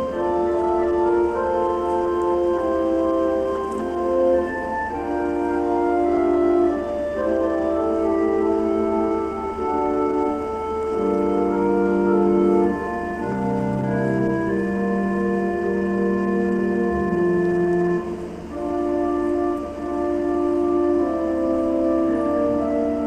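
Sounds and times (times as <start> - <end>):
organ playing slow chords: 0.0 - 23.0.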